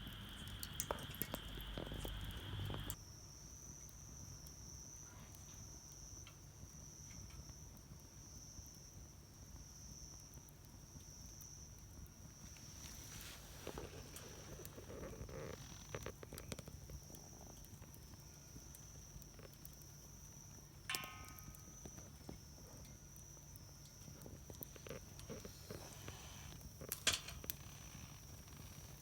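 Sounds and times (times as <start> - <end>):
fire popping: 0.0 - 3.0, 5.6 - 29.0
wood fire crackling: 0.0 - 3.0, 3.8 - 29.0.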